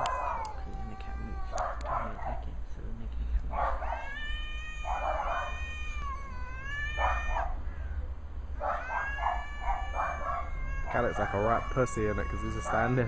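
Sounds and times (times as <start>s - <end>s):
cat yowling: 0.0s - 2.4s, 3.5s - 8.0s, 8.6s - 13.0s.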